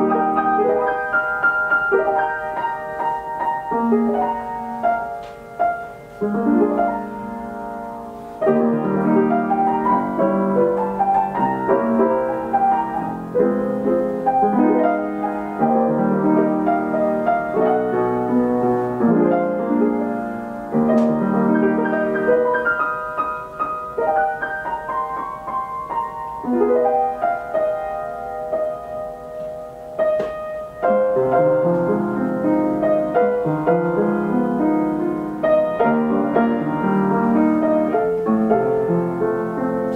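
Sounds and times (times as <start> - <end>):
player piano playing slow song: 0.0 - 39.9.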